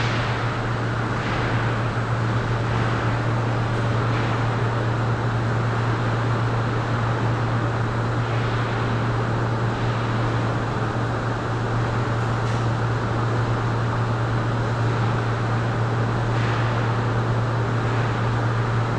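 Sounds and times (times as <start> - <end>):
low machinery hum: 0.0 - 18.9.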